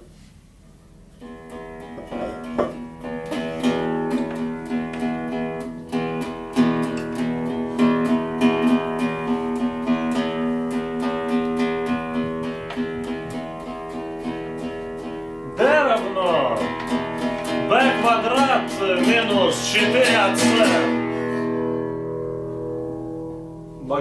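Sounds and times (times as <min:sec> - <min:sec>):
acoustic guitar strumming: 0:01.1 - 0:24.0.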